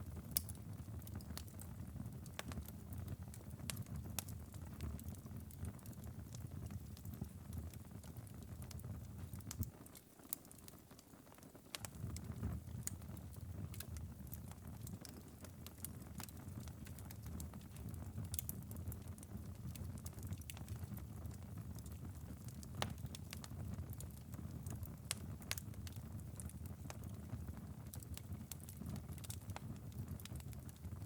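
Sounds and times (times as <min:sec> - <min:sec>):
fire embers crackling and popping: 0:00.0 - 0:31.0.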